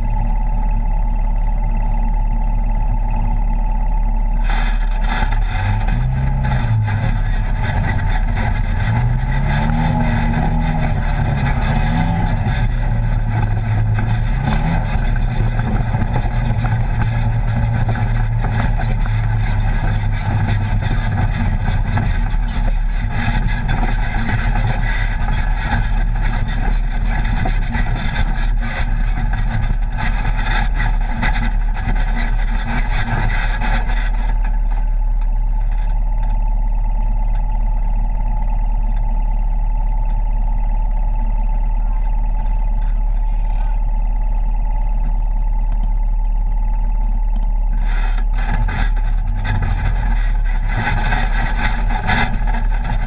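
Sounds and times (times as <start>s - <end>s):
off-road vehicle engine revving: 0.0s - 53.0s
wind and trail noise: 0.0s - 53.0s.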